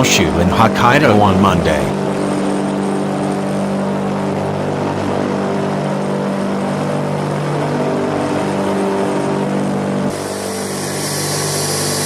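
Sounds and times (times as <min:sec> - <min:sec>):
aircraft engines and propellers droning: 0:00.0 - 0:12.0.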